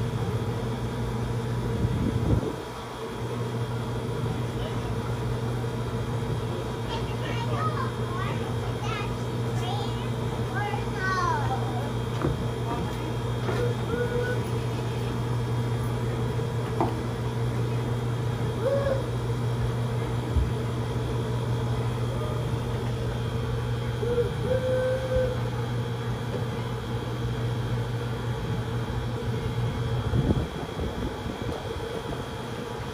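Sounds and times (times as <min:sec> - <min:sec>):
low mechanical hum: 0:00.0 - 0:32.9.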